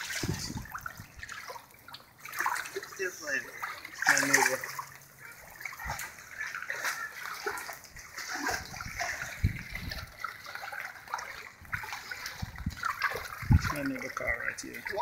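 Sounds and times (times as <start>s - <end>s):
water sloshing as someone wades: 0.0s - 15.0s.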